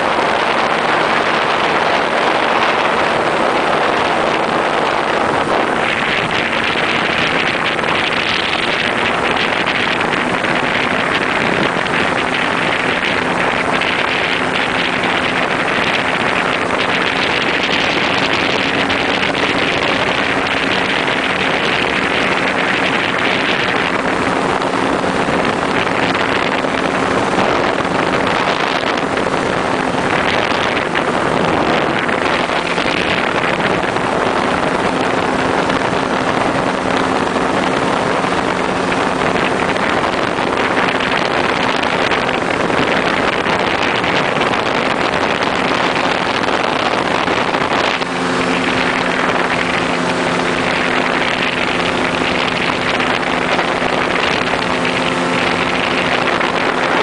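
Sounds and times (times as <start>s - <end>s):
engine and propeller running: 0.0s - 57.0s
wind rushing over microphone: 0.0s - 57.0s.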